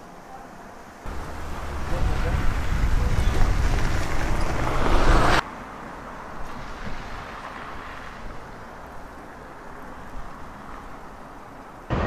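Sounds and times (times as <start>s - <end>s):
traffic: 0.0s - 12.0s
wind: 0.0s - 12.0s.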